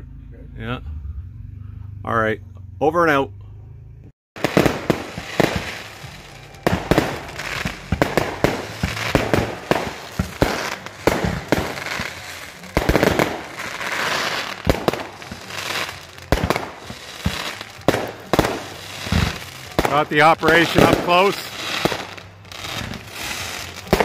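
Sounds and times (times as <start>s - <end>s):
fireworks banging and crackling: 4.4s - 24.0s
fireworks hissing rush: 4.4s - 24.0s.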